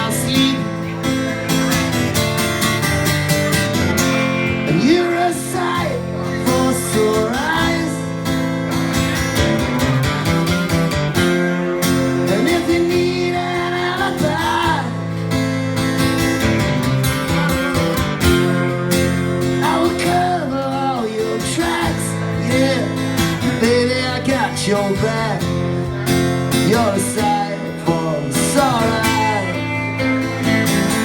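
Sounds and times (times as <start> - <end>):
bending lead guitar line: 0.0 - 31.0
strummed acoustic guitar: 0.0 - 31.0.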